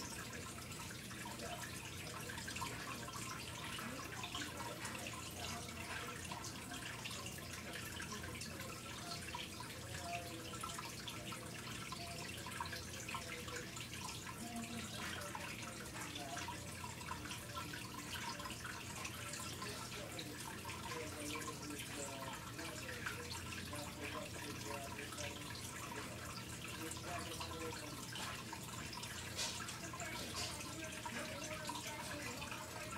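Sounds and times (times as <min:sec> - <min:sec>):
water trickling and bubbling: 0:00.0 - 0:32.9.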